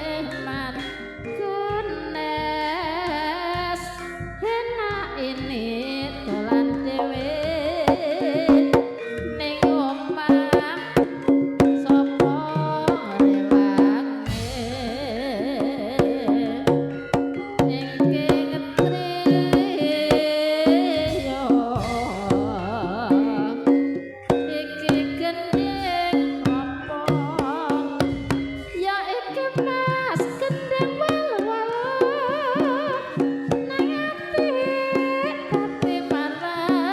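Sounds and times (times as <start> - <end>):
drum beating lively rhythm: 0.0 - 36.9
melody: 6.2 - 36.9
person singing wavering line: 6.3 - 36.9.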